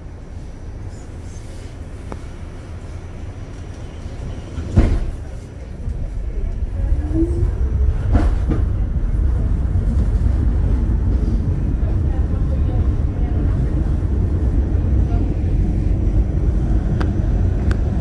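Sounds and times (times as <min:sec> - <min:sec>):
subway train rumbling on rails: 0:00.0 - 0:18.0.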